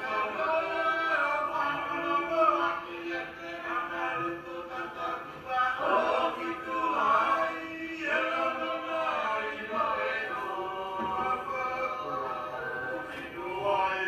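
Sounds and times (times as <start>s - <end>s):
voices singing a hymn: 0.0s - 14.0s.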